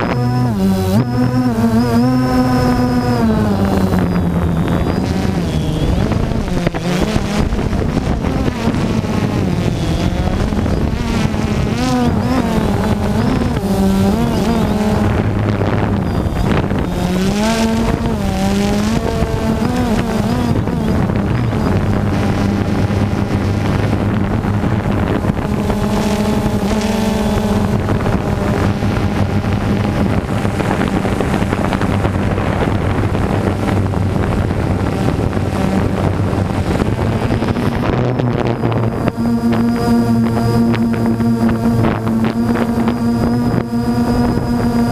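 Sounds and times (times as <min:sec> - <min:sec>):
drone propellers buzzing: 0:00.0 - 0:44.9
wind rushing over microphone: 0:00.0 - 0:44.9.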